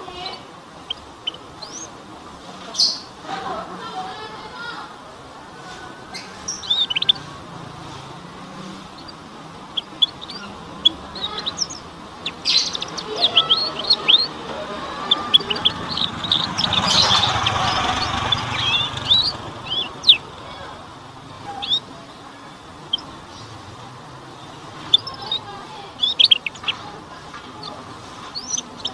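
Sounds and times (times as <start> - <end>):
canary twittering: 0.0 - 3.2, 5.7 - 28.9.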